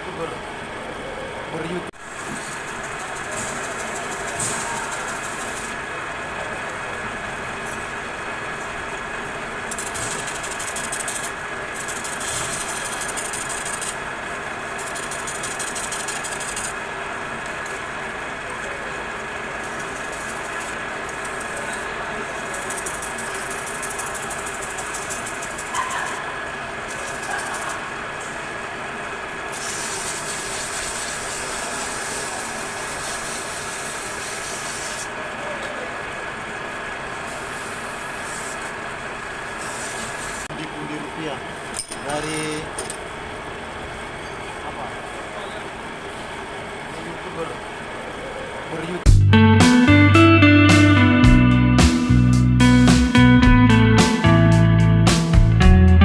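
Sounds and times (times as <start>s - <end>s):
metal lathe running: 0.0s - 49.1s.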